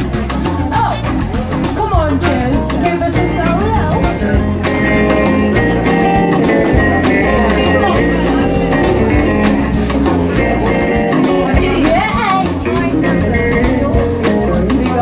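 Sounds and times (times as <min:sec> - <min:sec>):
jazz band music: 0:00.0 - 0:15.0.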